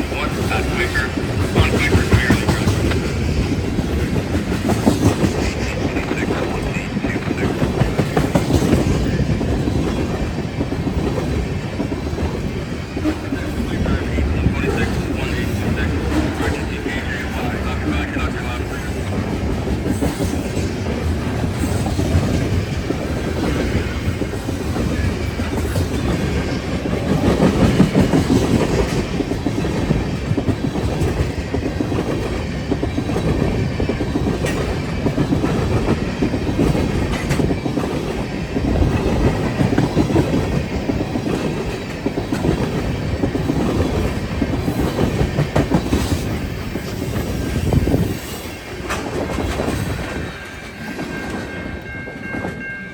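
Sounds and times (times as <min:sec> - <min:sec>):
train wheels clattering over rails: 0:00.0 - 0:52.9.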